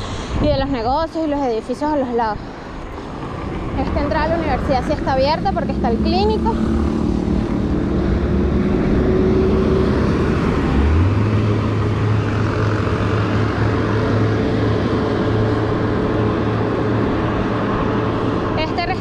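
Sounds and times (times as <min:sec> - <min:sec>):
road noise: 0:00.0 - 0:19.0
vehicle engine hum: 0:00.0 - 0:19.0
wind rushing: 0:00.0 - 0:19.0.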